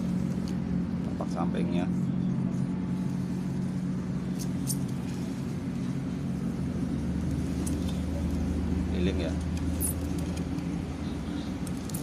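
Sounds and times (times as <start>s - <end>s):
deeper hum: 0.0s - 12.0s
steady low motor hum: 0.0s - 12.0s.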